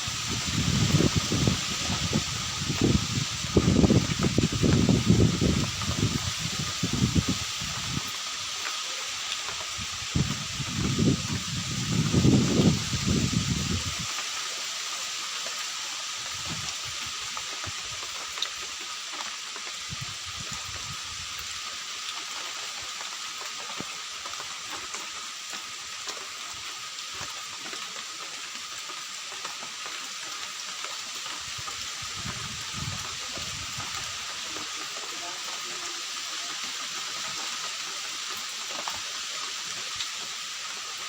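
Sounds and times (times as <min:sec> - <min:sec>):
steady rainfall: 0:00.0 - 0:41.0.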